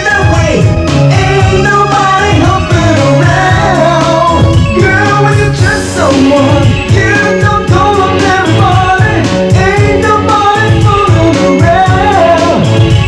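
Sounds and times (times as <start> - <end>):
pop song with vocals: 0.0 - 13.0
steady drum beat: 0.0 - 13.0.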